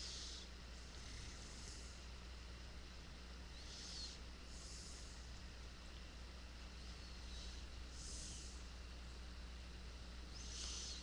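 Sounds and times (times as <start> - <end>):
faint low hum: 0.0 - 11.0
steady hiss: 0.0 - 11.0.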